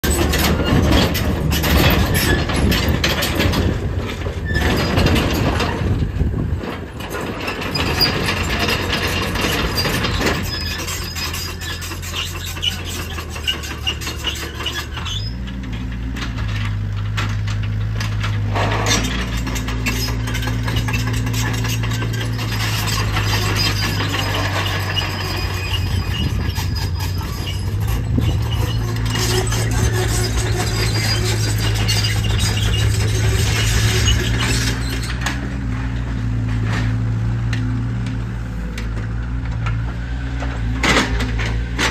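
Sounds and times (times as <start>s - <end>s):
sharp metallic clicks and squeaks: 0.0s - 5.9s, 7.0s - 35.6s
excavator diesel engine running: 0.0s - 41.9s.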